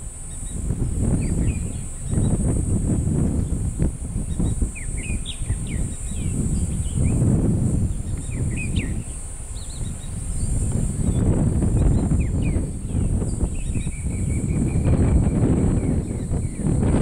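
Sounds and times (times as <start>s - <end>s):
steady high hiss: 0.0s - 17.0s
wind noise on microphone: 0.0s - 17.0s
faint bird chirps: 0.2s - 2.6s, 3.3s - 7.3s, 7.9s - 16.8s.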